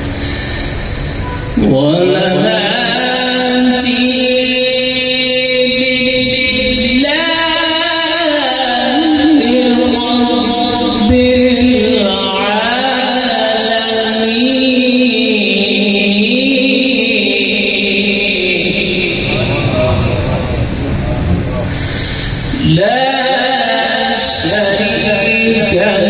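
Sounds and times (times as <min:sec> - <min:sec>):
man chanting melodically into microphone: 0:01.6 - 0:26.0.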